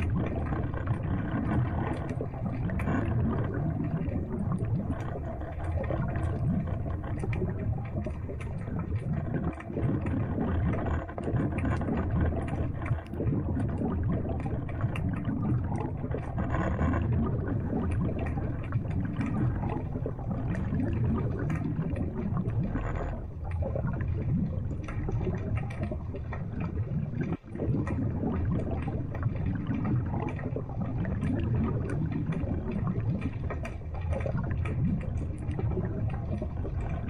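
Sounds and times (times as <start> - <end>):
faint underwater clicks: 0.0 - 37.0
muffled underwater water rush: 0.0 - 37.0.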